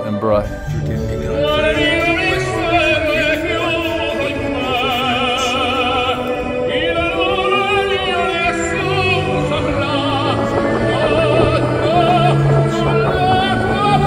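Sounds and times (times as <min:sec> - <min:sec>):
classical instrumental backing: 0:00.0 - 0:14.0
operatic singing: 0:00.0 - 0:14.0.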